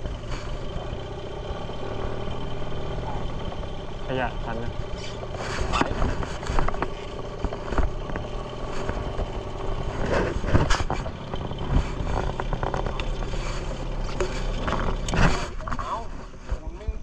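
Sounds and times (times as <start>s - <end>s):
small boat engine running: 0.0s - 15.7s.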